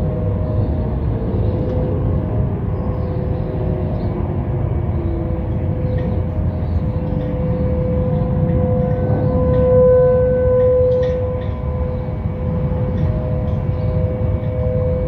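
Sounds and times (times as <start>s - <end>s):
distant warning sirens: 0.0s - 15.0s
low rumble: 0.0s - 15.0s.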